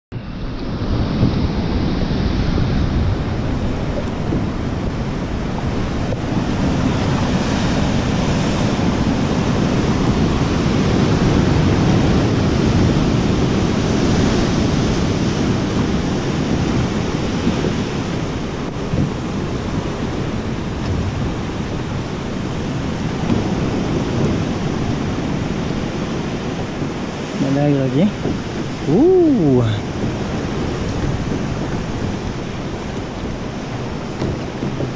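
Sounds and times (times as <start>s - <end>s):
sea waves rushing: 0.1s - 34.9s
wind buffeting microphone: 0.1s - 34.9s
water lapping: 0.4s - 34.9s.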